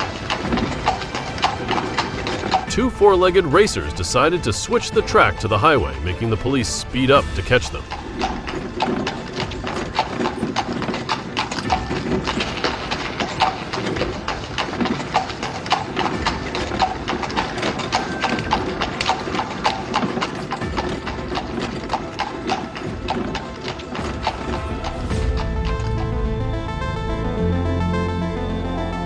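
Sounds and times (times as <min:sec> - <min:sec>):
hooves clip-clopping on pavement: 0:00.0 - 0:25.4.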